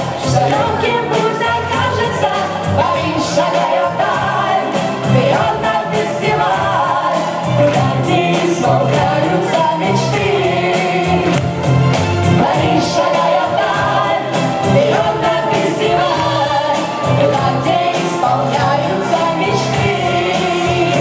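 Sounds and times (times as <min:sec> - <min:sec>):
children's choir singing: 0:00.0 - 0:11.4, 0:12.2 - 0:21.0
backing track with steady beat: 0:00.0 - 0:21.0
singers on microphones: 0:00.0 - 0:21.0.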